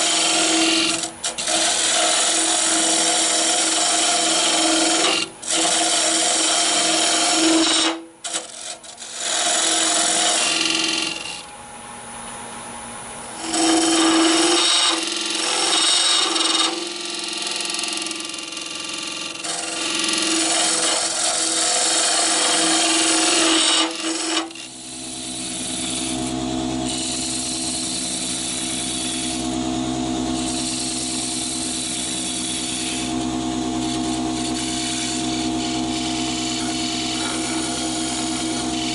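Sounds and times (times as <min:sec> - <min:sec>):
lathe tool scraping wood: 0:00.0 - 0:11.6, 0:13.3 - 0:38.9
lathe machine hum: 0:00.0 - 0:11.7, 0:12.8 - 0:38.9.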